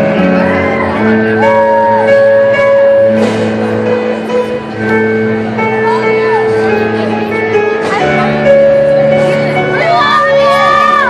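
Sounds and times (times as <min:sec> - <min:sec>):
live amplified music: 0:00.0 - 0:11.0.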